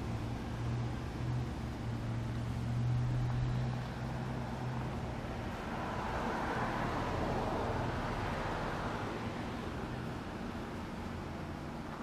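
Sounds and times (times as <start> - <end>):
low vehicle hum: 0.0 - 12.0
car passing by: 0.8 - 12.0.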